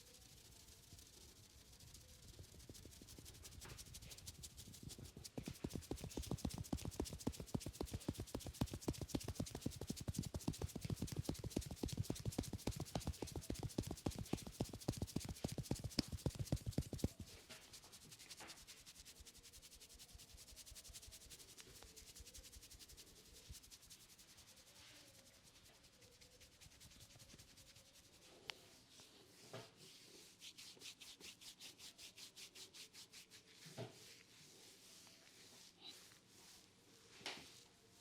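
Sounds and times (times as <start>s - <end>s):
hands rubbing hair: 0.2s - 37.8s.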